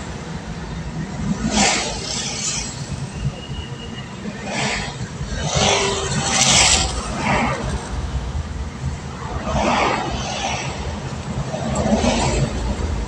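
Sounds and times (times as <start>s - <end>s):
motorcycle road noise rumble: 0.0s - 13.0s
vehicles whooshing past: 0.0s - 13.0s.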